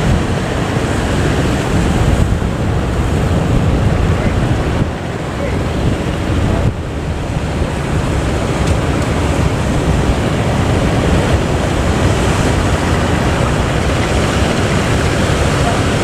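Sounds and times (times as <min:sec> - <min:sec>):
ocean surf rushing: 0:00.0 - 0:16.0
wind buffeting microphone: 0:00.0 - 0:16.0.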